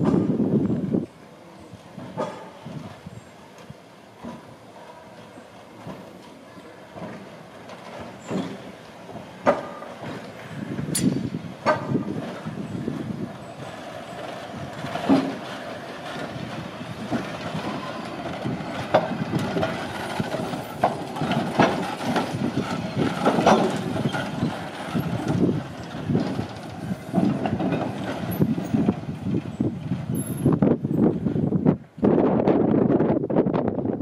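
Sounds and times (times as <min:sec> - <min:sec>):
tram wheels clattering on rail joints: 0:00.0 - 0:34.0.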